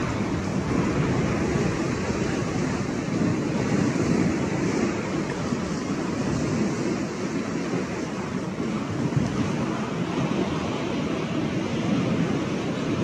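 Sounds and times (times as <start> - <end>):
waves breaking and lapping: 0.0 - 13.0
wind on microphone: 0.0 - 13.0.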